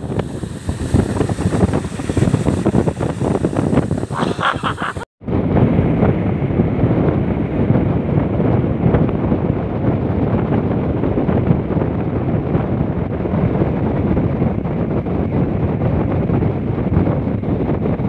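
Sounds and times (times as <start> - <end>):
wind over microphone: 0.0 - 18.0.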